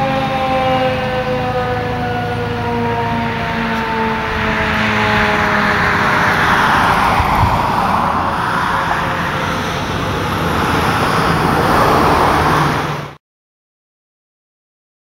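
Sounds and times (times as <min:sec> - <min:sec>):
cars passing: 0:00.0 - 0:13.2
tornado siren winding down: 0:00.0 - 0:13.2.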